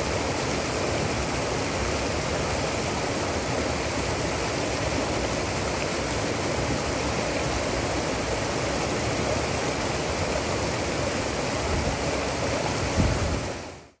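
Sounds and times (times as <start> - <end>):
water rushing over rock ledges: 0.0 - 14.0.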